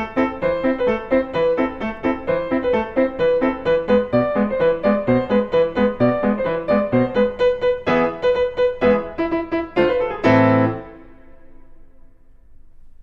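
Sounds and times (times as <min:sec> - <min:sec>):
piano music: 0:00.0 - 0:12.7.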